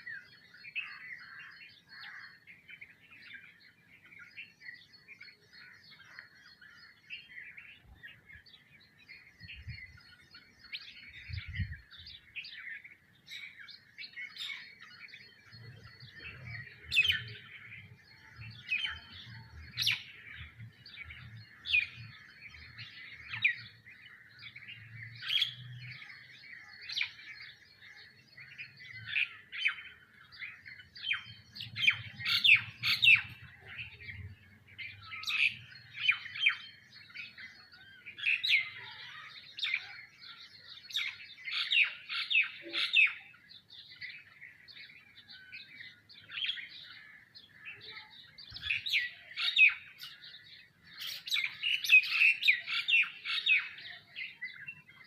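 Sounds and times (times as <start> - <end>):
sharp bird calls: 0.0 - 55.0
sparrows chirping: 0.0 - 55.0.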